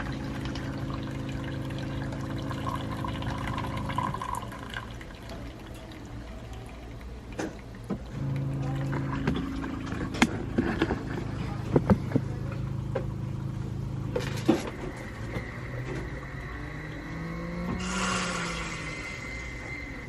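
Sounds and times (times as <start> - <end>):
coffee machine humming: 0.0 - 20.0.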